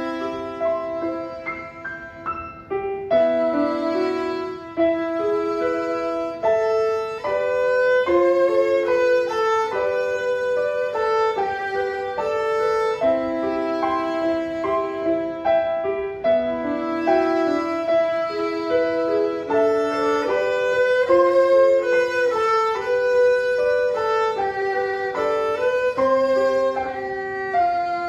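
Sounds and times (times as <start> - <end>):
piano accompaniment: 0.0 - 28.0
violin playing bowed melody: 0.0 - 28.0.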